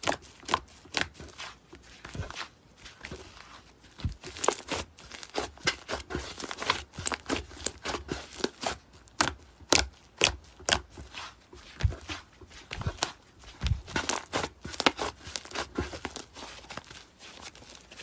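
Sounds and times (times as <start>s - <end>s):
slime squishing with pops: 0.0s - 2.4s, 3.0s - 18.0s.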